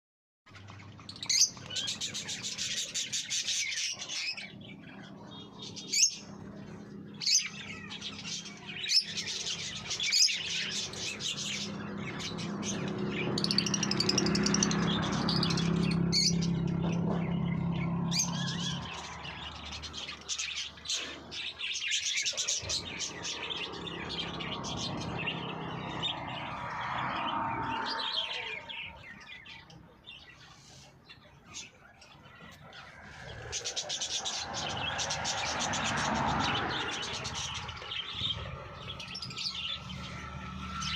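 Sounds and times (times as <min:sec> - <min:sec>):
cage birds chirping and squawking: 0:00.5 - 0:40.9.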